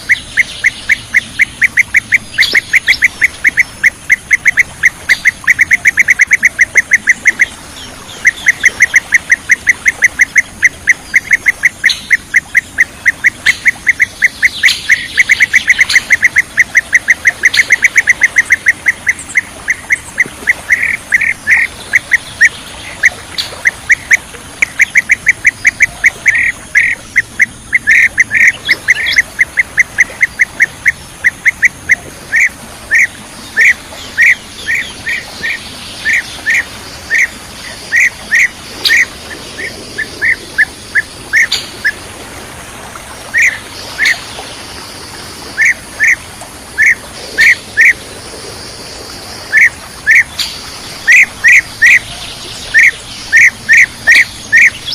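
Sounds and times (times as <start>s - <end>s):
birds calling with sharp notes: 0.0s - 42.1s, 42.9s - 54.9s.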